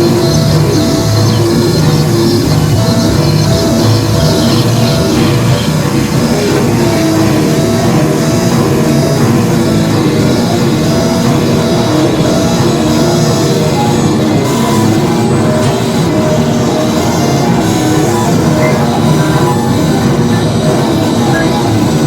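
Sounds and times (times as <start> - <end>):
industrial electronic music: 0.0 - 22.0.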